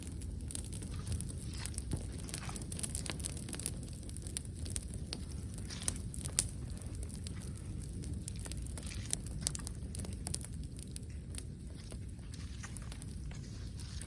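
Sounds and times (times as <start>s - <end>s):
campfire crackling and popping: 0.0s - 14.0s
low steady rumble: 0.0s - 14.0s.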